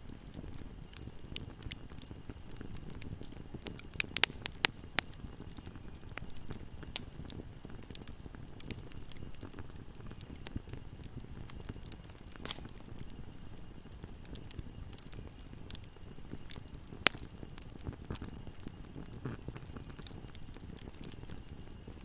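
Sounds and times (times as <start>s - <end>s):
bonfire crackling: 0.0s - 22.0s
burning wood pops: 0.0s - 22.0s.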